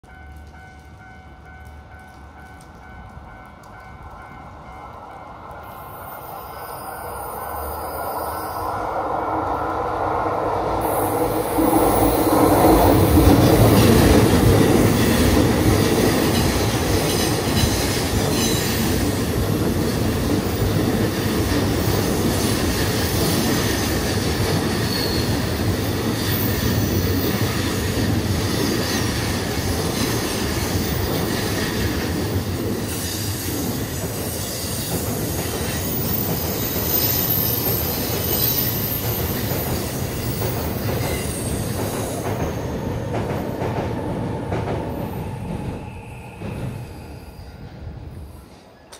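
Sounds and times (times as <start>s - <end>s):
train passing on rails: 0.0s - 48.9s.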